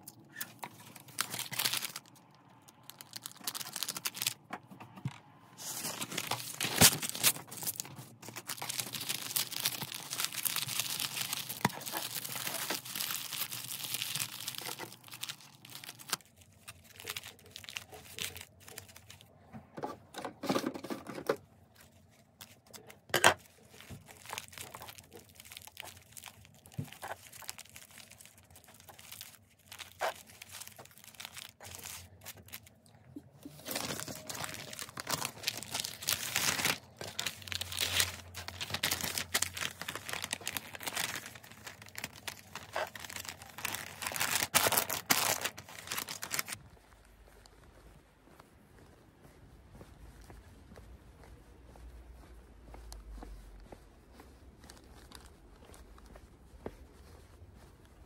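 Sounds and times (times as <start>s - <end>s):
wrapping paper crinkling: 0.0s - 4.5s, 5.5s - 19.5s, 21.2s - 48.0s, 53.4s - 58.0s.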